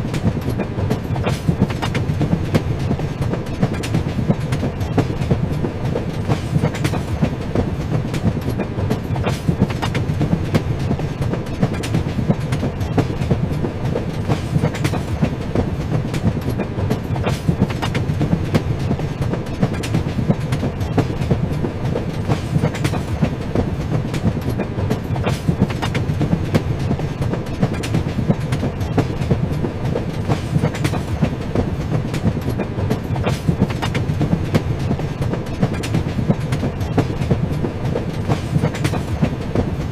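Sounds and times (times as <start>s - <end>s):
train wheels rumbling on rails: 0.0s - 39.9s
wheels clacking over track: 0.0s - 39.9s.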